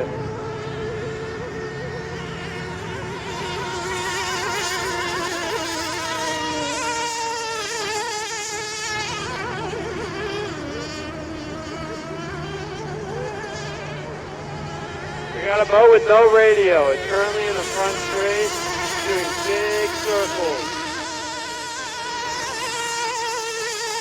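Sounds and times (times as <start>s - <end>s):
rc boat motors buzzing: 0.0s - 24.0s.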